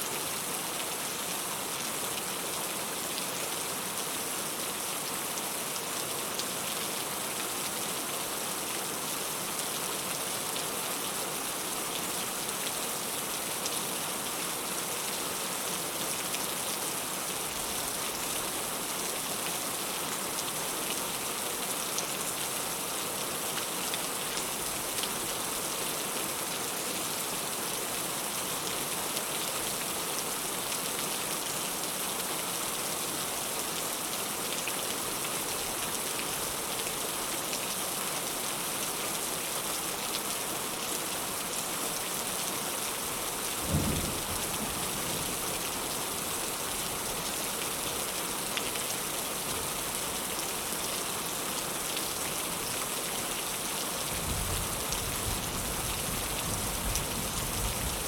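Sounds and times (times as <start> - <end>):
heavy rain falling: 0.2 - 58.0.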